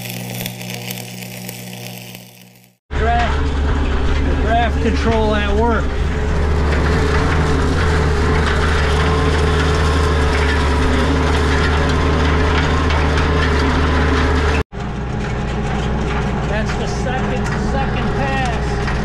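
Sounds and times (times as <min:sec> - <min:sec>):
tractor diesel engine under load: 0:02.9 - 0:19.0.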